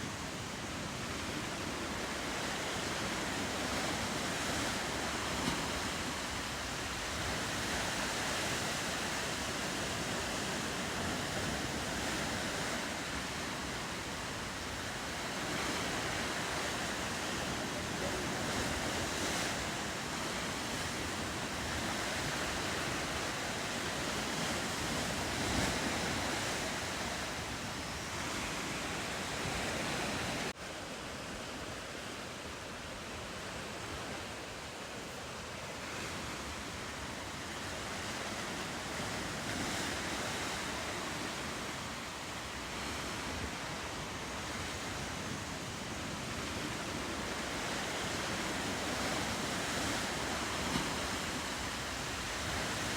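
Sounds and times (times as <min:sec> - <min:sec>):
wind on microphone: 0:00.0 - 0:30.6, 0:35.6 - 0:52.9
ocean surf washing: 0:00.0 - 0:52.9.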